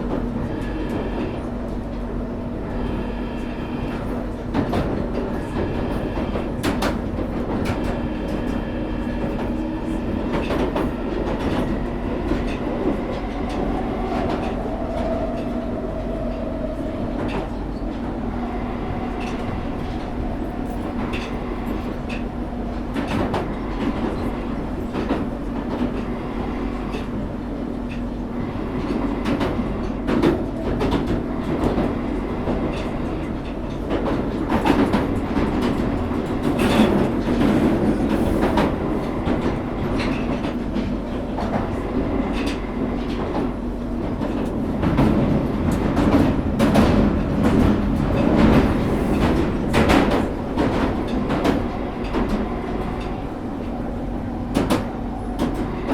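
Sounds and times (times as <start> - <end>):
train rumbling in tunnel: 0.0 - 55.9.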